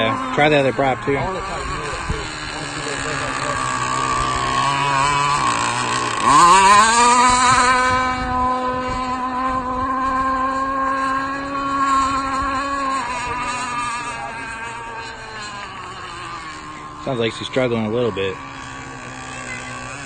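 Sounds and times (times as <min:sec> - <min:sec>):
model boat engine revving: 0:00.0 - 0:20.0.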